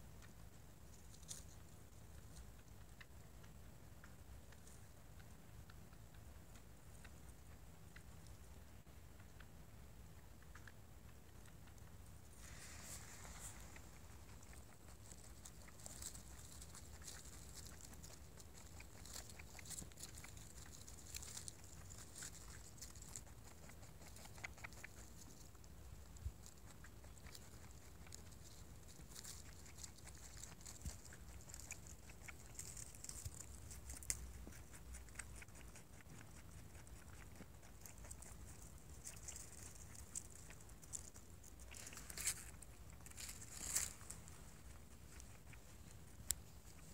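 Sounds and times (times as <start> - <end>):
rabbit chewing grass: 0.0 - 46.9.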